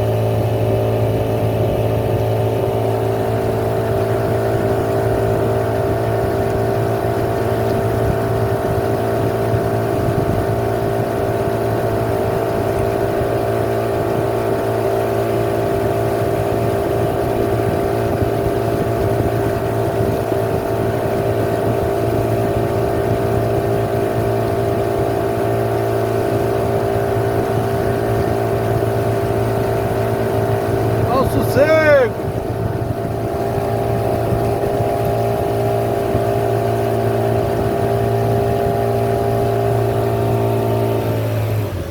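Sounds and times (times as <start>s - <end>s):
motorboat engine droning: 0.0s - 41.9s.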